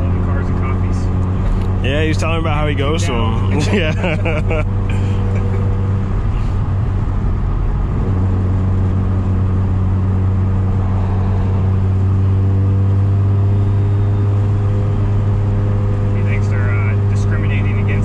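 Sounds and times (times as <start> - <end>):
car engine droning: 0.0 - 18.0
tyre and road noise: 0.0 - 18.0.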